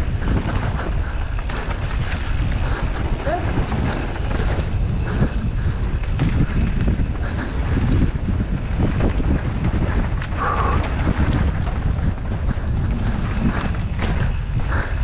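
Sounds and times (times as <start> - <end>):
bike knocking and rattling: 0.0 - 15.0
tyres on dirt trail: 0.0 - 15.0
wind buffeting microphone: 0.0 - 15.0.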